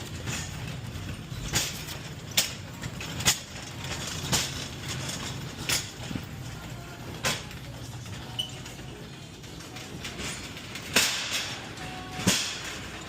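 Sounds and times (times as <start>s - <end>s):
carts knocking and clacking: 0.0s - 13.0s.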